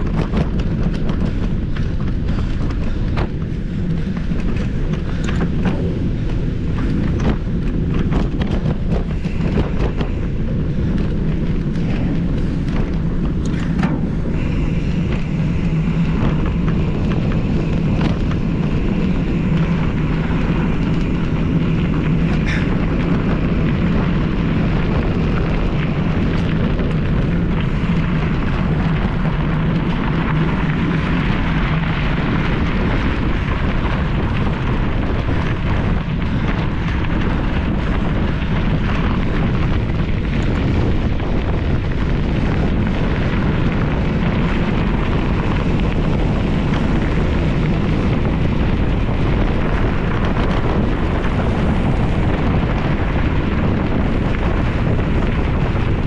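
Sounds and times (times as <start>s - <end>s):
bike rattling and clattering: 0.0s - 56.0s
steady low hum: 0.0s - 56.0s
wind rushing over microphone: 0.0s - 56.0s.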